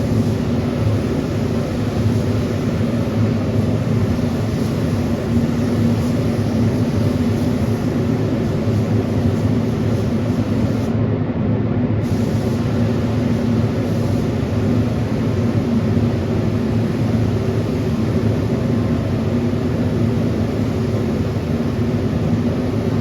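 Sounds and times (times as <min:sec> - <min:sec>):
machine droning with a hum: 0:00.0 - 0:23.0.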